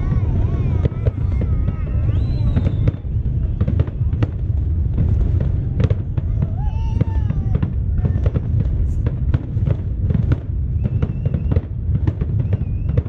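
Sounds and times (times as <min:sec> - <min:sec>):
fireworks bangs: 0:00.0 - 0:13.0
low rumble of explosions: 0:00.0 - 0:13.0.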